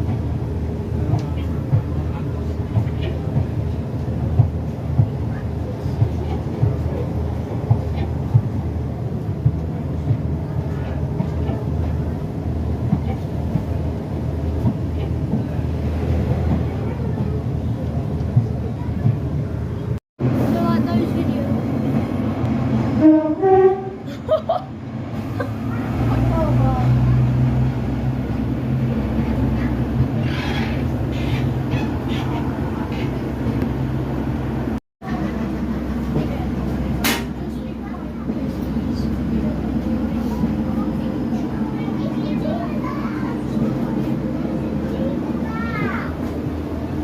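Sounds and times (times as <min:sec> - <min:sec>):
train rumbling along tracks: 0:00.0 - 0:47.0.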